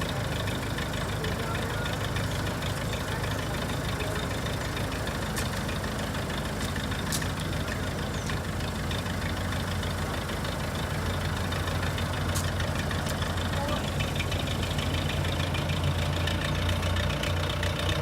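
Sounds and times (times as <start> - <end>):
backhoe engine idling: 0.0 - 18.0.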